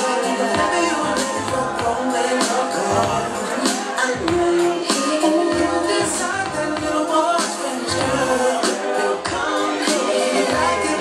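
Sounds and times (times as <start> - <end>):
dance music: 0.0 - 11.0
person singing: 0.0 - 11.0.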